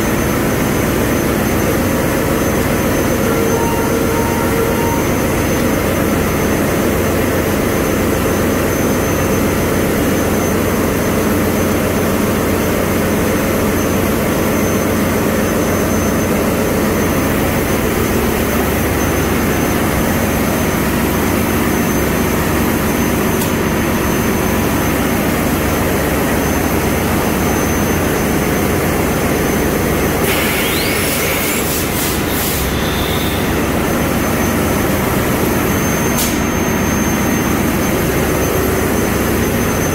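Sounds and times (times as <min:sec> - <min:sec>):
engine room machinery din: 0:00.0 - 0:39.9
short rising whine: 0:00.0 - 0:39.9.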